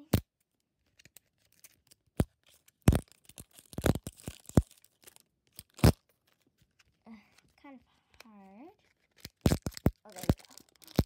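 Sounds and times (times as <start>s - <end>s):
plastic wrapper crackling: 0.8s - 7.0s, 8.2s - 11.0s.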